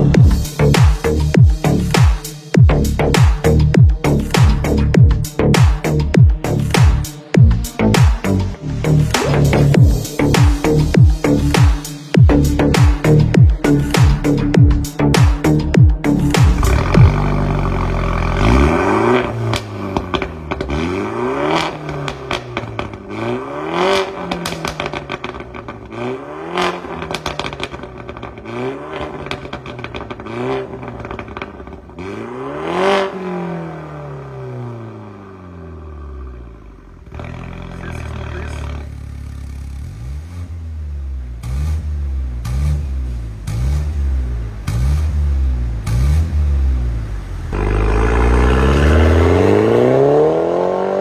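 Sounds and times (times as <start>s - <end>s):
car engine idling: 0.0s - 50.4s
car engine revving: 0.0s - 51.0s
exhaust crackles: 5.6s - 51.0s.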